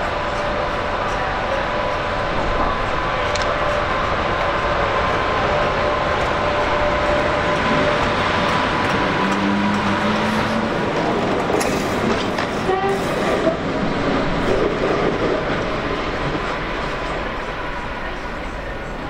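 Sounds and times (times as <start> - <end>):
train running past: 0.0 - 19.0.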